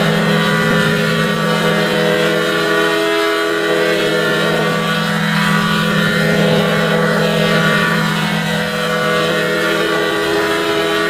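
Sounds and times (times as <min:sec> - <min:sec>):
electronic vocoder drone: 0:00.0 - 0:11.0.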